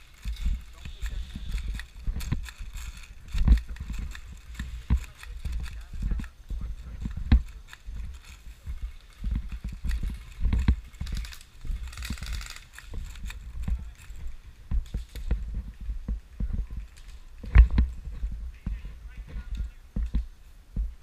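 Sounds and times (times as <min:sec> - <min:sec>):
footsteps and gear thumping: 0:00.0 - 0:21.0.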